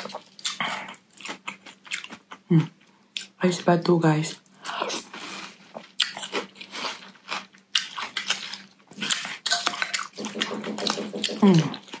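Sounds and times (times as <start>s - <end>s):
chewing noodles: 0.0s - 2.5s, 4.3s - 12.0s
crunchy bites and mouth noises: 0.0s - 3.4s, 4.3s - 12.0s.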